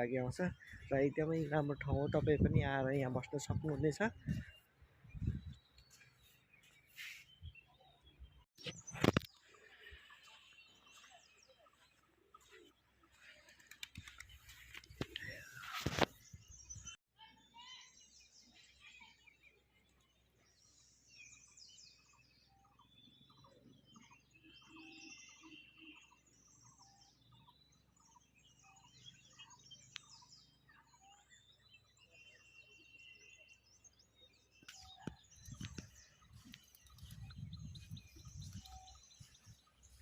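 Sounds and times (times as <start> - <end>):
birds chirping and trilling: 0.0 - 40.0.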